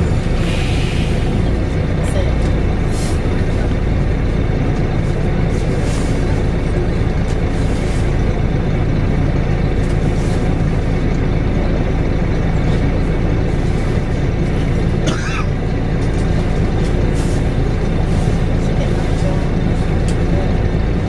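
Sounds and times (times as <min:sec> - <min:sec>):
bus diesel engine drone: 0:00.0 - 0:21.0.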